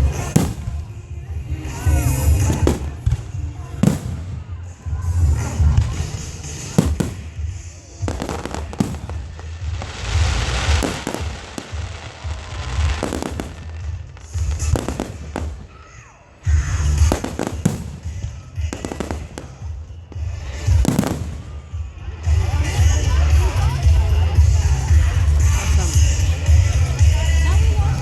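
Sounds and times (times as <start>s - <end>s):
music with heavy bass: 0.0s - 15.6s, 16.4s - 28.0s
fireworks bangs and crackling: 0.0s - 28.0s.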